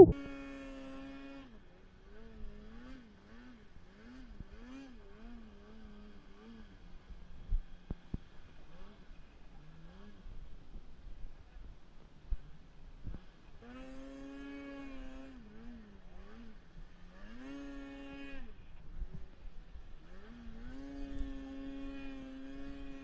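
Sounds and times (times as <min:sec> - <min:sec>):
snowmobile engine under throttle: 0:00.0 - 0:23.0.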